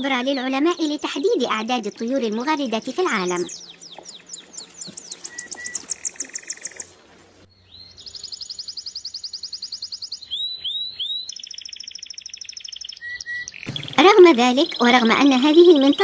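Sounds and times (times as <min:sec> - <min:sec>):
songbirds trilling: 0:00.0 - 0:16.0.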